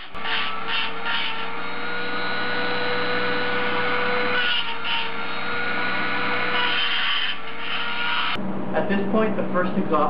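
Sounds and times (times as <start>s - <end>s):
rotary tool grinding metal: 0.0s - 8.4s.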